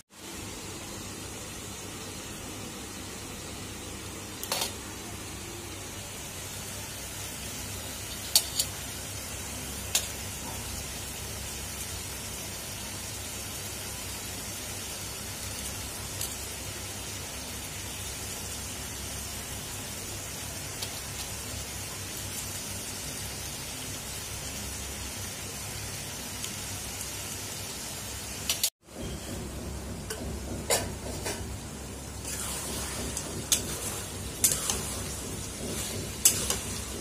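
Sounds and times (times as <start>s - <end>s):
curry sizzling in a wok: 0.0s - 37.0s.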